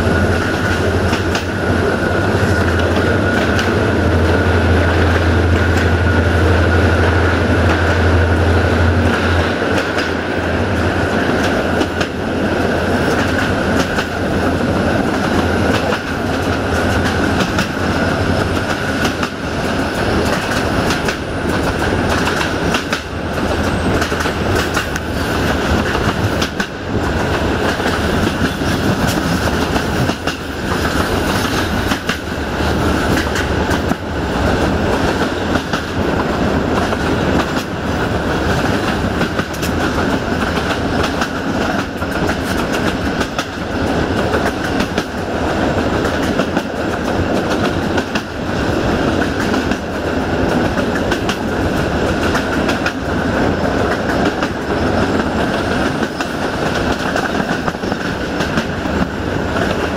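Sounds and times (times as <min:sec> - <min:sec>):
train wheels clattering over joints: 0:00.2 - 0:59.9.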